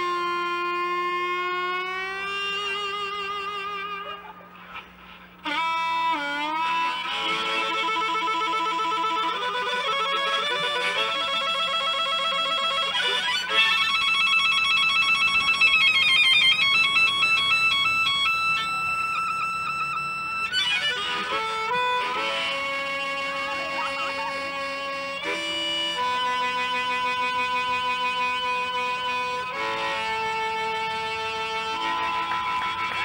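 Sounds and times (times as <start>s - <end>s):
harmonica playing: 0.0s - 33.0s.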